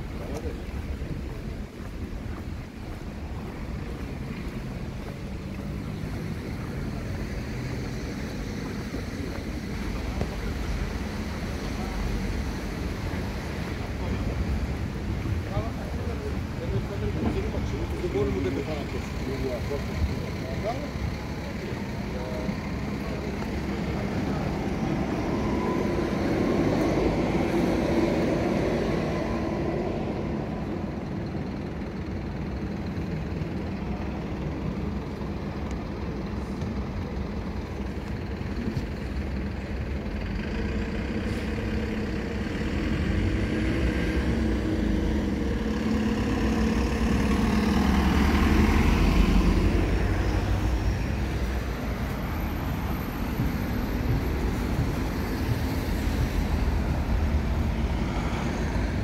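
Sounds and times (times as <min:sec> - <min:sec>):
heavy vehicle passing: 0:00.0 - 0:59.0
motor vehicles passing: 0:00.0 - 0:59.0.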